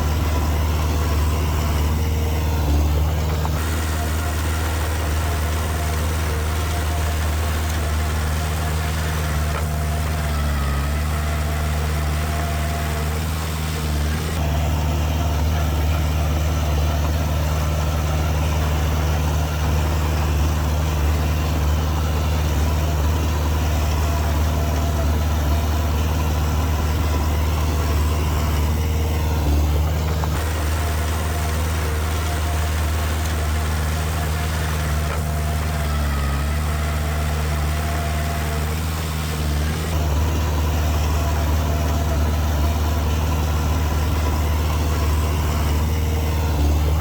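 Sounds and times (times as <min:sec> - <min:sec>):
diesel engine humming: 0:00.0 - 0:47.0.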